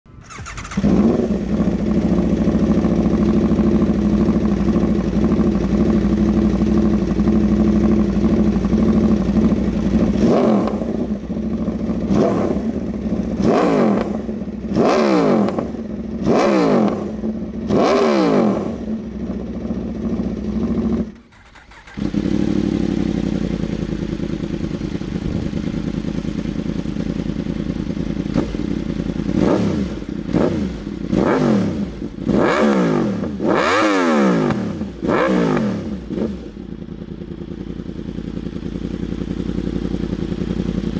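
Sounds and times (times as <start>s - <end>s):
motorcycle engine idling and revving: 0.1s - 40.9s
second motorcycle engine revving: 0.1s - 40.9s.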